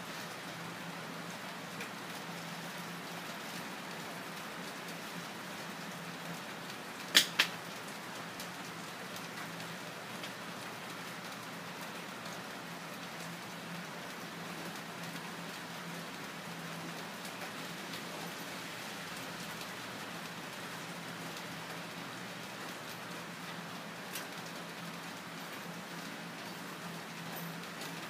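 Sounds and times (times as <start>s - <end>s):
steady soft hiss: 0.0s - 28.0s.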